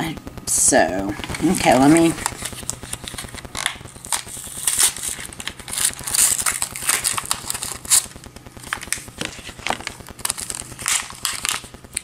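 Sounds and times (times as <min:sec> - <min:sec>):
packaging rustling and scraping: 0:01.2 - 0:12.0.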